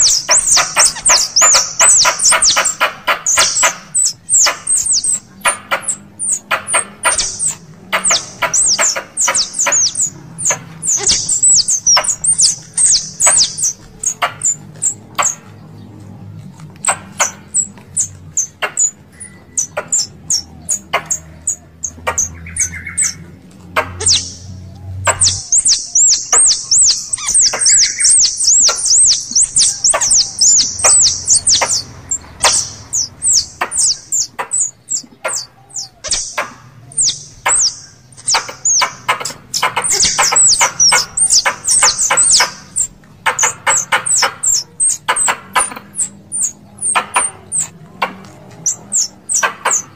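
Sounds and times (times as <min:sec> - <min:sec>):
squirrel chirps: 0:00.0 - 0:15.6, 0:16.8 - 0:49.9
squirrel chips and clicks: 0:00.0 - 0:49.9.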